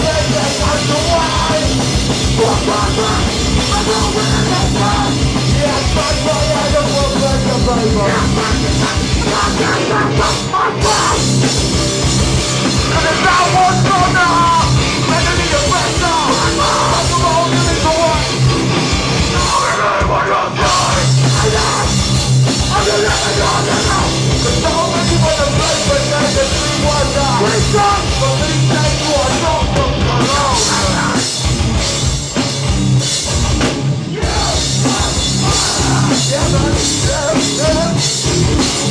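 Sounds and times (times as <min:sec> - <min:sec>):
bass guitar: 0:00.0 - 0:38.9
distorted guitars: 0:00.0 - 0:38.9
fast pounding drums: 0:00.0 - 0:38.9.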